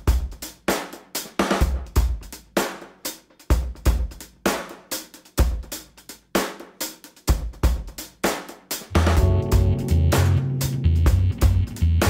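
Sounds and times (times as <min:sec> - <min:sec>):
drum kit playing a beat: 0:00.0 - 0:12.0.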